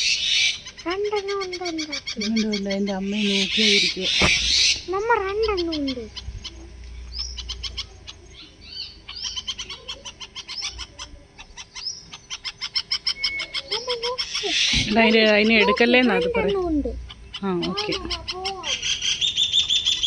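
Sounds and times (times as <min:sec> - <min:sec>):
birds chirping rapidly: 0:00.0 - 0:20.0.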